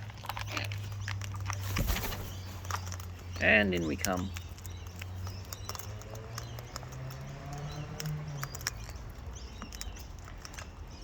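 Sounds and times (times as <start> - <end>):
beaks and claws clicking: 0.0 - 11.0.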